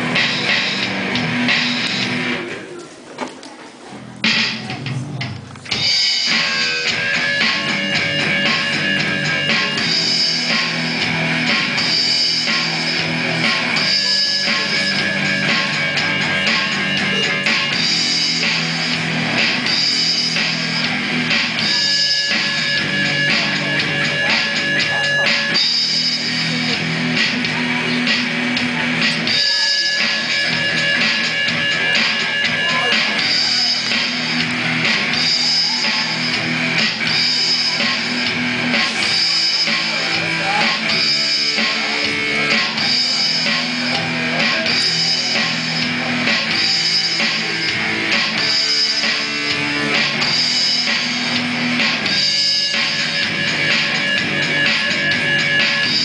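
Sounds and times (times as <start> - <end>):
electronic drum kit: 0.0 - 2.8, 3.9 - 56.0.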